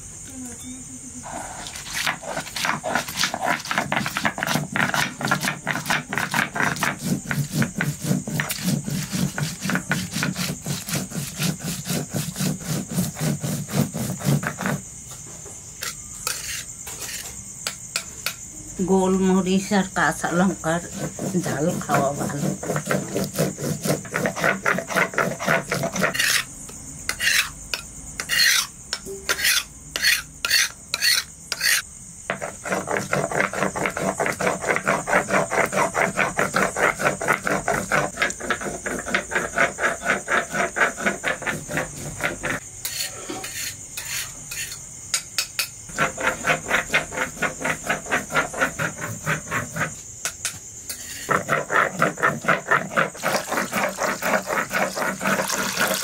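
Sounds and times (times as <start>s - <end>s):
stone roller grinding on stone: 1.2s - 14.9s, 15.8s - 18.4s, 20.2s - 44.8s, 45.4s - 56.0s.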